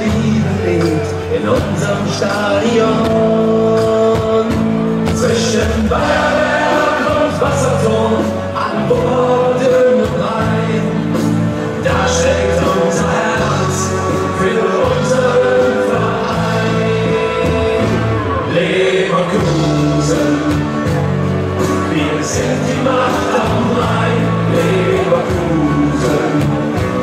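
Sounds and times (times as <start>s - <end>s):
stadium crowd singing: 0.0s - 27.0s.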